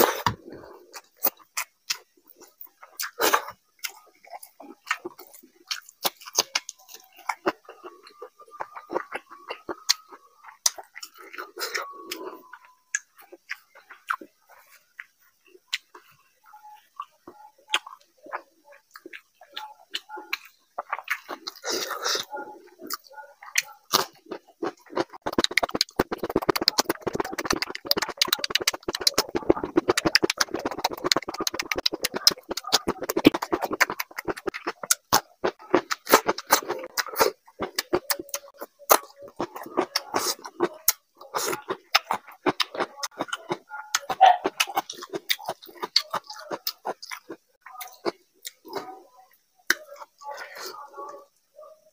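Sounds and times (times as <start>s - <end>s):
chewing cucumber mouth clicks: 0.9s - 16.1s, 16.8s - 48.9s.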